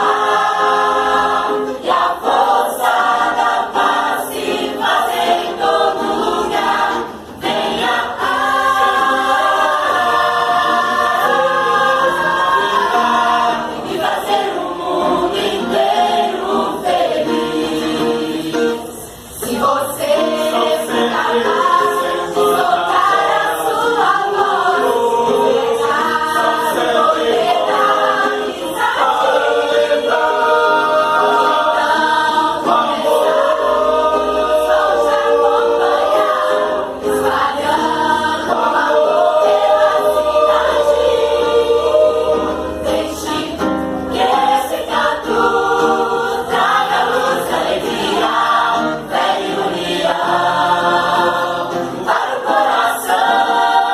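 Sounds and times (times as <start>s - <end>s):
choir singing in harmony: 0.0s - 53.9s.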